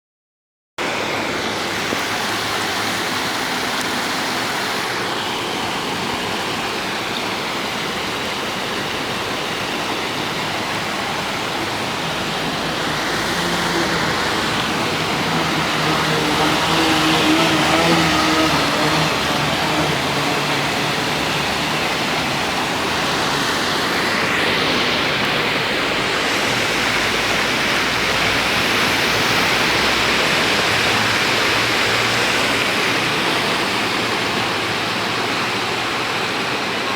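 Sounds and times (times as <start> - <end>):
heavy rain on a street: 0.8 - 36.9
vehicle passing on wet road: 0.8 - 36.9.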